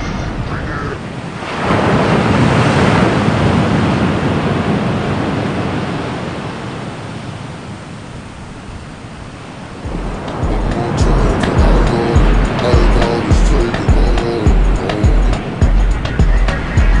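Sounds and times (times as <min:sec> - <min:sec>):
rushing noise: 0:00.0 - 0:17.0.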